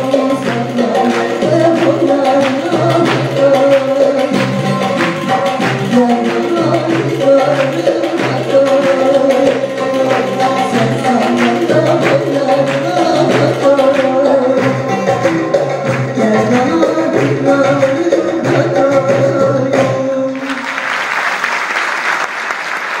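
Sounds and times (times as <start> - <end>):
audience applauding: 0.0 - 18.6, 20.3 - 23.0
steady percussion beat: 0.0 - 20.2
choir and ensemble folk song: 0.0 - 20.6.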